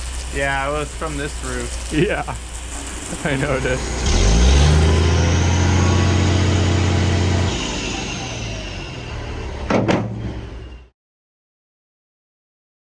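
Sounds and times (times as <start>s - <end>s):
engine running: 0.0s - 10.9s.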